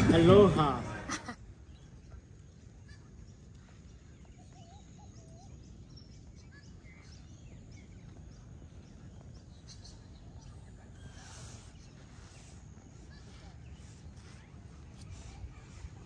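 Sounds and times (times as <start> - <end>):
low outdoor rumble: 0.0 - 16.0
bird calls and chirps: 1.4 - 16.0.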